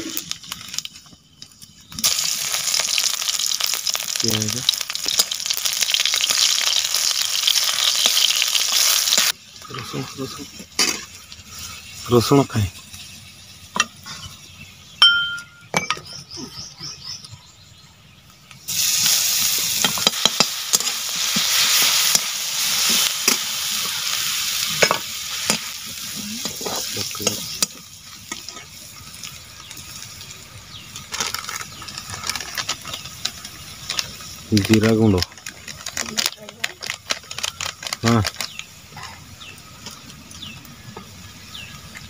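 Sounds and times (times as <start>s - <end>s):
garlic sizzling in hot oil: 0.0s - 15.0s, 18.5s - 42.0s.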